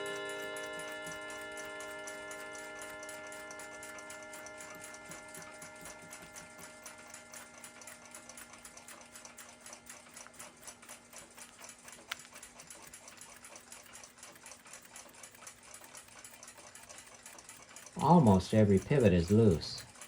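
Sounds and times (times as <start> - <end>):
clock ticking fast: 0.0 - 20.0.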